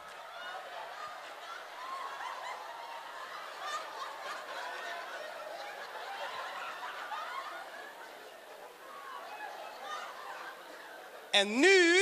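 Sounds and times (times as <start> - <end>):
audience laughing: 0.3 - 12.0.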